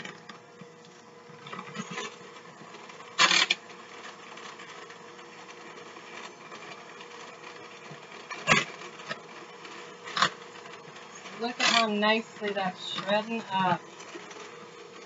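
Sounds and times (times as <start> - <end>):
electric hand mixer running: 0.0 - 15.0.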